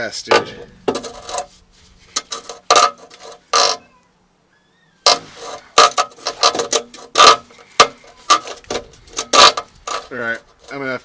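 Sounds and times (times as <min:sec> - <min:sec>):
metallic clanks and scrapes: 0:00.2 - 0:03.8, 0:05.1 - 0:11.0.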